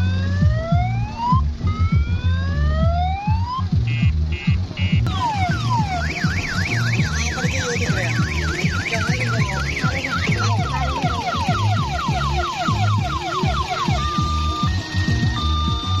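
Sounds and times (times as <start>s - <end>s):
dance music: 0.0s - 16.0s
electronic siren wailing and yelping: 0.0s - 16.0s
heavy thumping bass beat: 0.0s - 16.0s.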